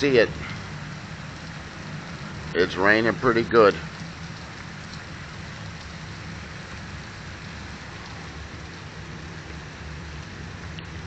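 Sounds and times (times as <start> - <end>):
rain falling on pavement: 0.0 - 11.0.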